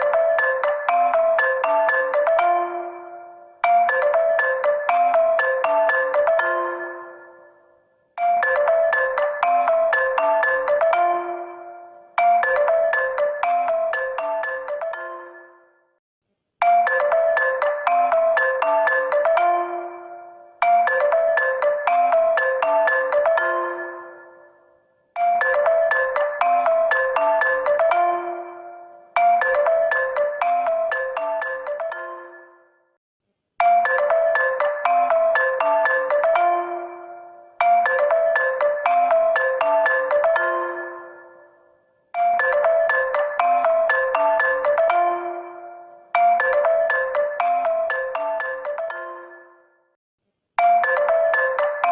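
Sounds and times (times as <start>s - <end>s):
phone ringtone melody: 0.0s - 16.0s, 16.6s - 33.0s, 33.6s - 50.0s, 50.6s - 51.9s.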